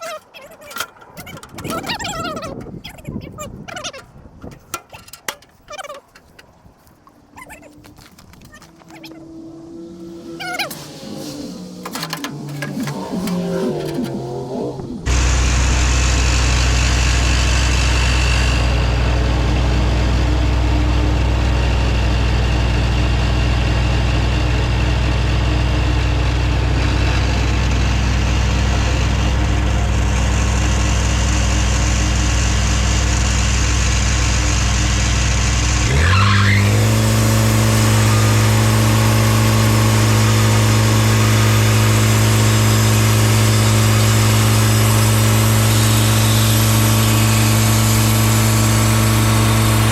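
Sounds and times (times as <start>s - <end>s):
sawmill engine running: 8.7s - 49.9s.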